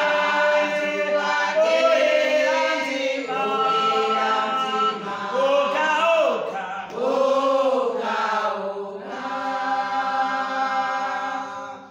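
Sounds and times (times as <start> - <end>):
women's choir singing: 0.0 - 11.9.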